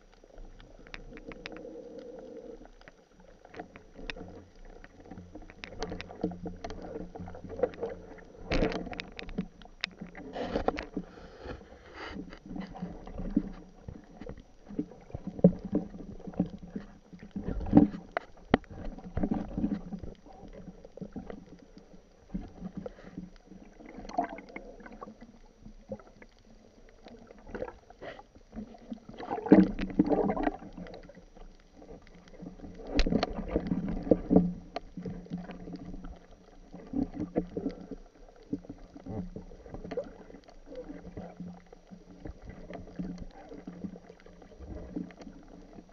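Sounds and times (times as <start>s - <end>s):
water swishing underwater: 0.0s - 45.9s.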